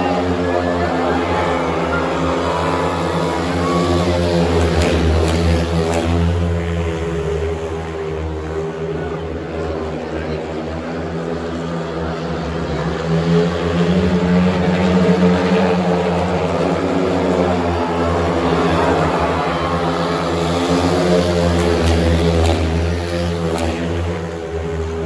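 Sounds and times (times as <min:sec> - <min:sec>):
motorcycles racing: 0:00.0 - 0:25.0.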